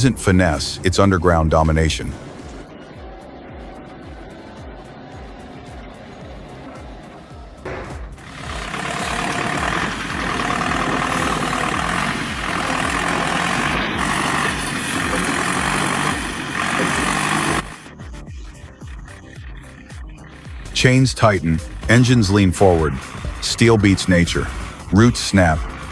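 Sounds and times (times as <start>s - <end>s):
heavy machinery grinding: 0.0s - 25.9s.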